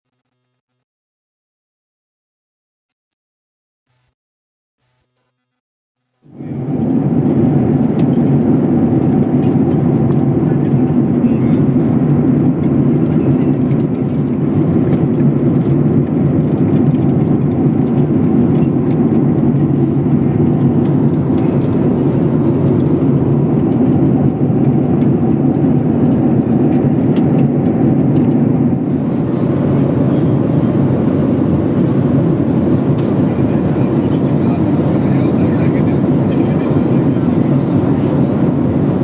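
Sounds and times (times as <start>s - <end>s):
airliner cabin engine drone: 6.3s - 39.0s.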